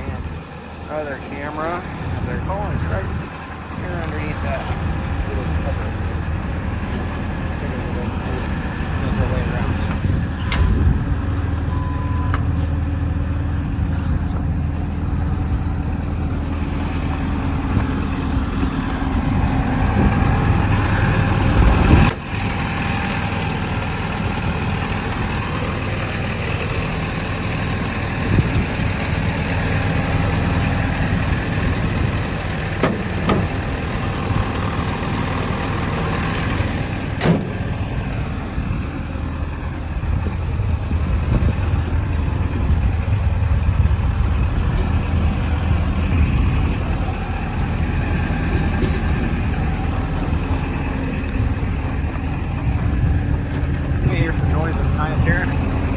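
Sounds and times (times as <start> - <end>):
diesel excavator engine idling: 0.0 - 55.9.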